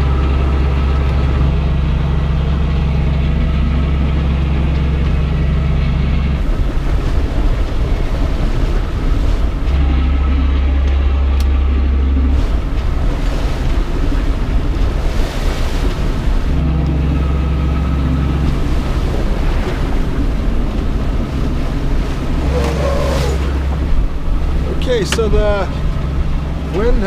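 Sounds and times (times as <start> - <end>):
boat engine droning: 0.0 - 27.0
water noise: 0.0 - 27.0
wind: 0.0 - 27.0.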